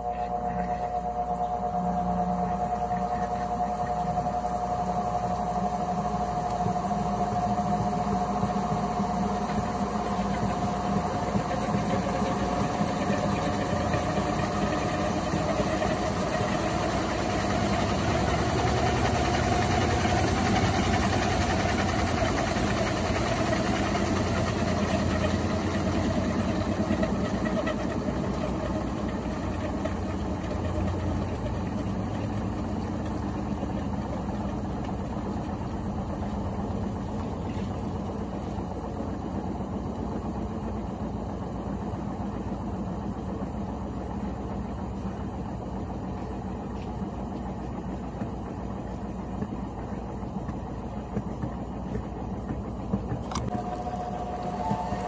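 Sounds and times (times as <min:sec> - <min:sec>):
steady whine: 0:00.0 - 0:55.0
washing machine running: 0:00.0 - 0:55.0.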